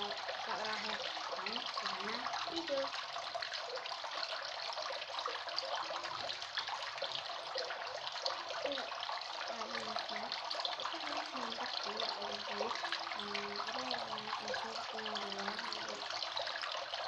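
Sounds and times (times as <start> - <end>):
running water hissing: 0.0 - 17.0.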